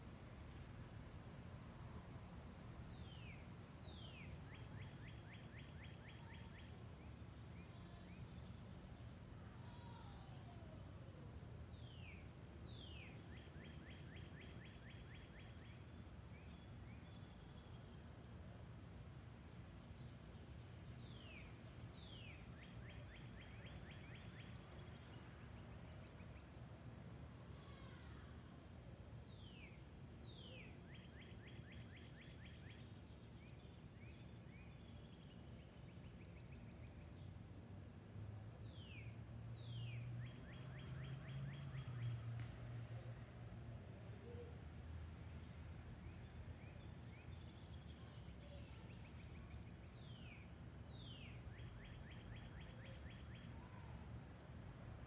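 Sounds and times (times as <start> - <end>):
faint birdsong: 1.8 - 55.0
songbird singing: 1.8 - 55.0.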